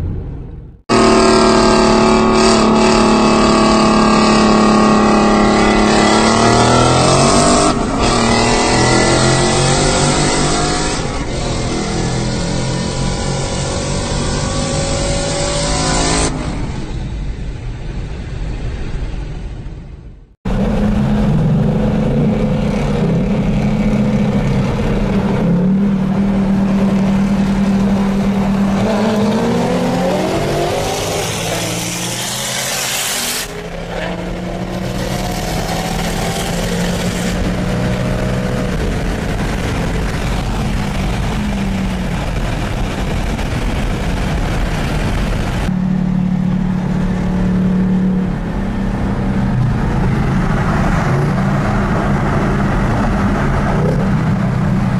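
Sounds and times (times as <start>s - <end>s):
car engines running loudly: 0.0s - 54.9s.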